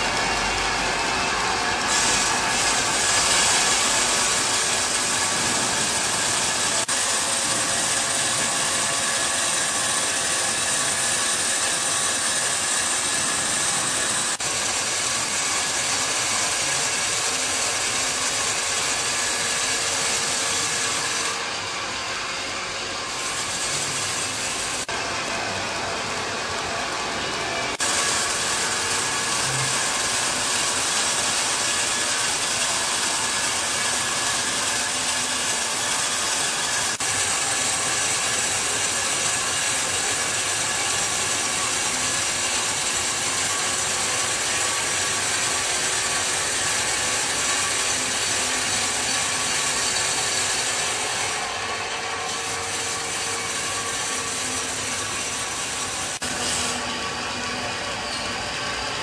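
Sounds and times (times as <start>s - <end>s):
band saw rasping through wood: 0.0s - 24.9s, 27.7s - 57.0s.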